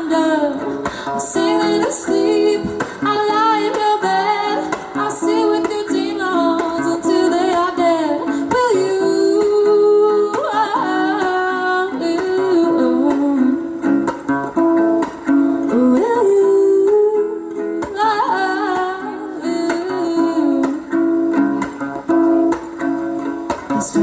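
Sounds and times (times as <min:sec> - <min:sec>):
wordless sung voice: 0:00.0 - 0:14.0, 0:15.4 - 0:21.2, 0:23.6 - 0:24.0
acoustic guitar: 0:00.0 - 0:24.0.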